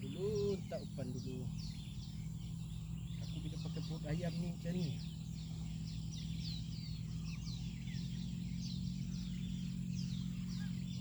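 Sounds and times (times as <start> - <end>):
birds chirping: 0.0 - 11.0
steady low hum: 0.0 - 11.0.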